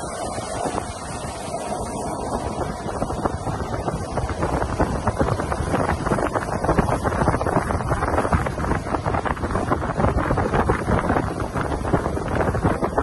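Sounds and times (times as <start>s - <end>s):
water rushing past a hull: 0.0s - 13.0s
wind buffeting the microphone: 0.0s - 13.0s.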